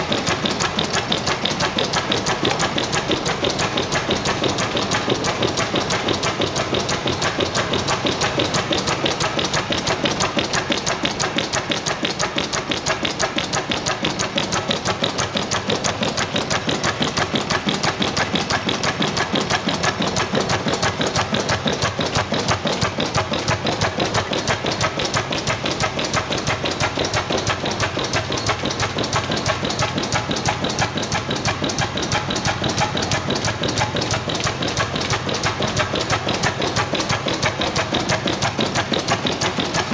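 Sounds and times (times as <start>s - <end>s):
stationary gas engine clattering: 0.0s - 39.9s.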